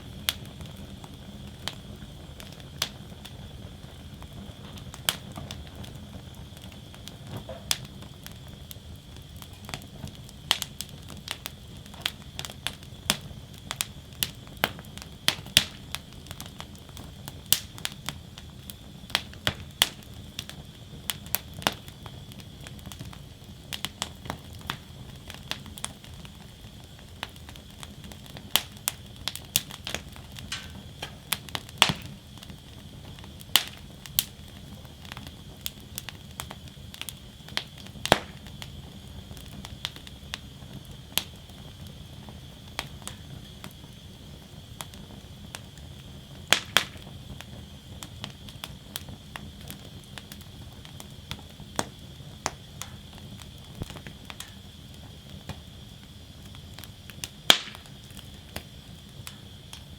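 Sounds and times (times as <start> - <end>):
low rush of flame: 0.0 - 59.9
wood fire crackling and popping: 0.0 - 59.9.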